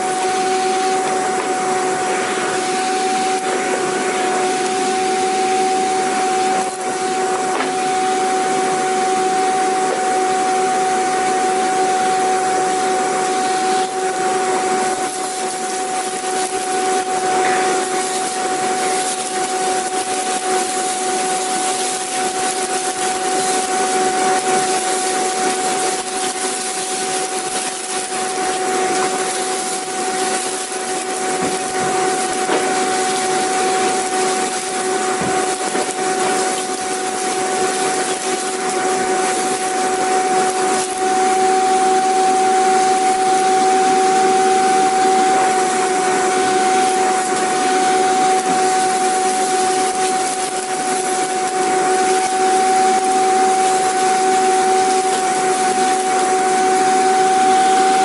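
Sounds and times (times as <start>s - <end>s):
vacuum cleaner motor running: 0.0s - 58.0s.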